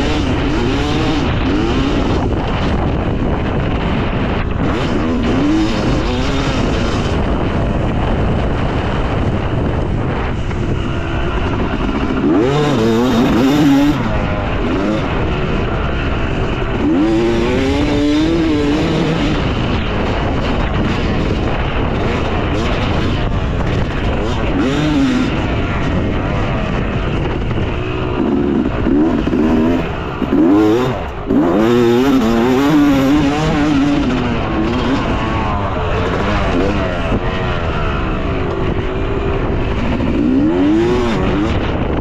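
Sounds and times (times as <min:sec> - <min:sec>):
constant rushing noise: 0:00.0 - 0:42.0
motocross bike engine revving: 0:00.0 - 0:42.0.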